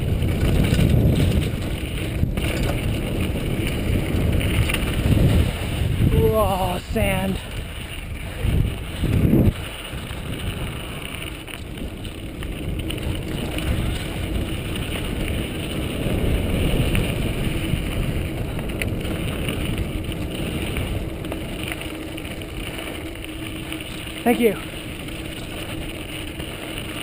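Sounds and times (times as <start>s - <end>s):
mountain bike rolling on dirt: 0.0s - 27.0s
wind buffeting microphone: 0.0s - 27.0s.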